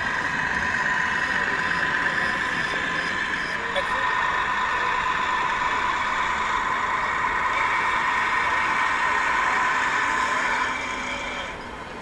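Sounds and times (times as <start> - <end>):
model train humming and whining: 0.0 - 12.0.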